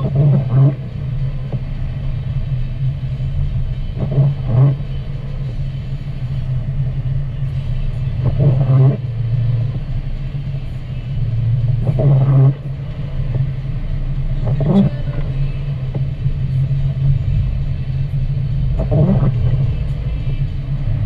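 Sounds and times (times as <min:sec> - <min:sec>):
car engine and tyre drone: 0:00.0 - 0:21.0
windshield wipers sweeping: 0:00.0 - 0:21.0.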